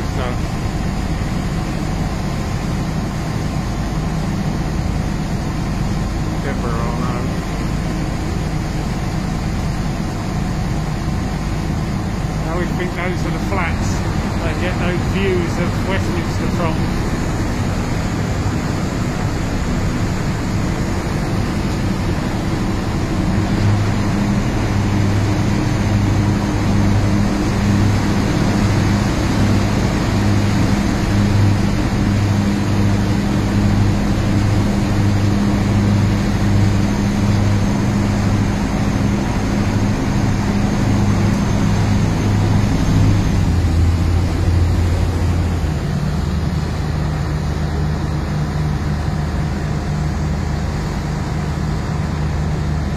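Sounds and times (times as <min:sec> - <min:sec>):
boat diesel engines droning: 0:00.0 - 0:52.9
water rushing past hull: 0:07.2 - 0:52.9.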